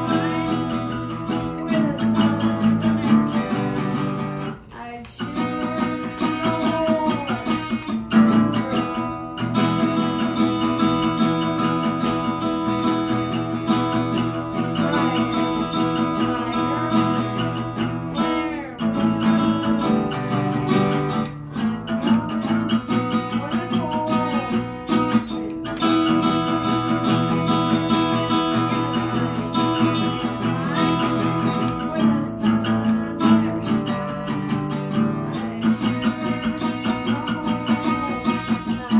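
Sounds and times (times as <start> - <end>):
acoustic guitar strumming chords: 0.0 - 38.9
person singing: 0.0 - 38.9.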